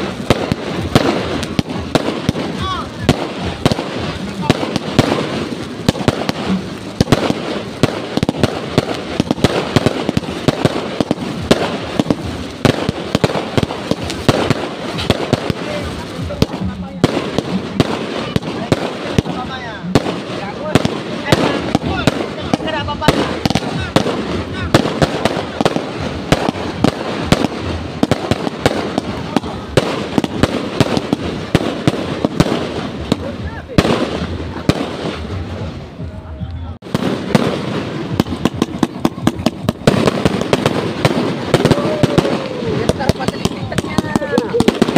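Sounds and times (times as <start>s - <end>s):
fireworks bangs: 0.0s - 44.9s
fireworks crackle: 0.0s - 44.9s.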